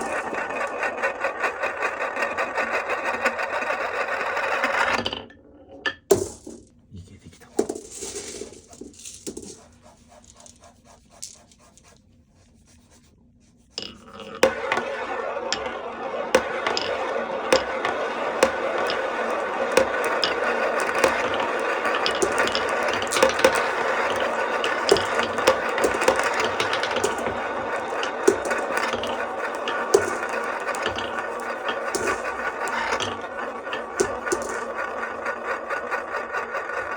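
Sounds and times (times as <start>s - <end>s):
marbles rolling and clacking: 0.0s - 6.7s, 7.4s - 10.6s, 13.8s - 36.9s.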